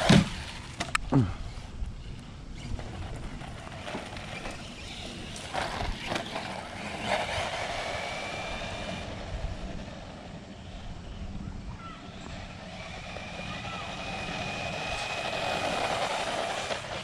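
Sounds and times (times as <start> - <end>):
rc truck motor whine: 0.0 - 11.4, 12.0 - 17.0.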